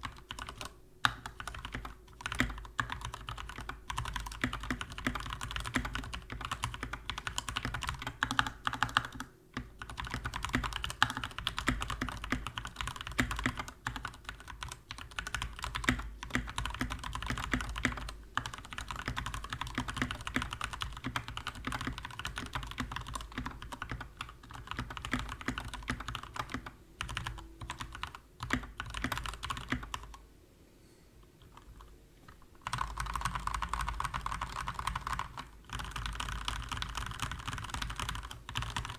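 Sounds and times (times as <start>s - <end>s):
mechanical keyboard typing: 0.0s - 30.2s, 31.4s - 38.9s.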